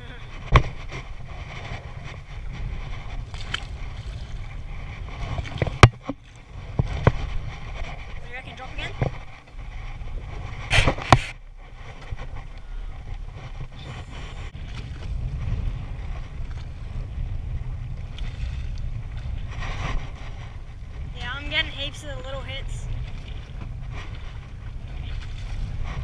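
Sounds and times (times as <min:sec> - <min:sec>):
water against boat hull: 0:00.0 - 0:26.0
wind buffeting microphone: 0:00.0 - 0:26.0.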